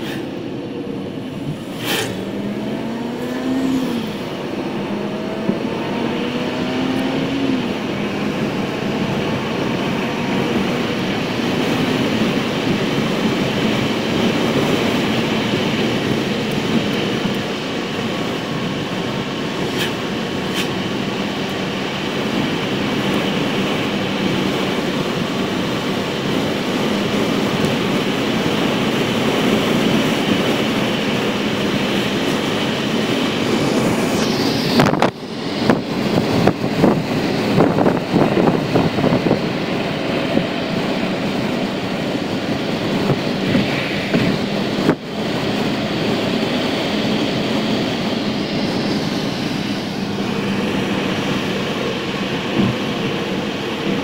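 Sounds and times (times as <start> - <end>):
car engine accelerating: 0.0 - 54.0
road noise inside car: 0.0 - 54.0.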